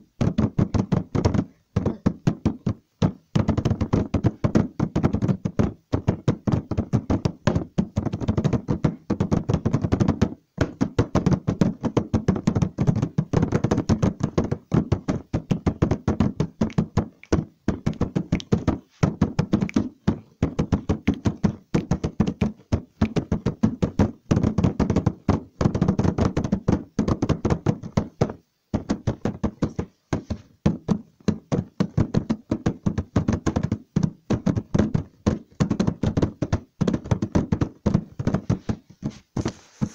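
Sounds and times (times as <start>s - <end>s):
rapid dense knocking: 0.0s - 39.9s.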